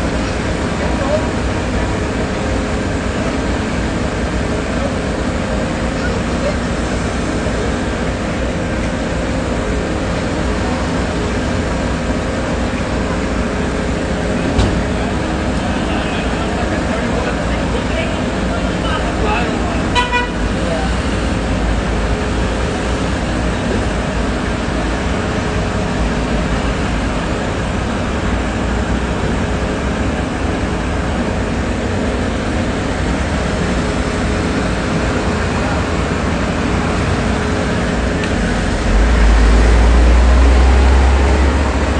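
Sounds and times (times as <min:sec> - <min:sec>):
diesel engine rumbling: 0:00.0 - 0:41.9
street noise: 0:00.0 - 0:41.9.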